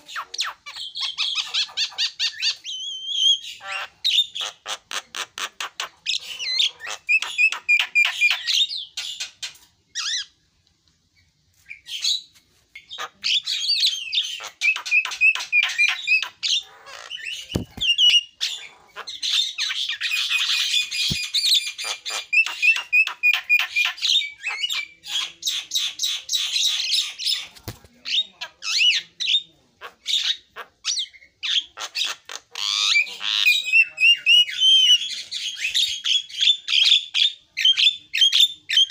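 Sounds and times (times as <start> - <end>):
myna bird singing: 0.0 - 10.4, 11.2 - 38.9.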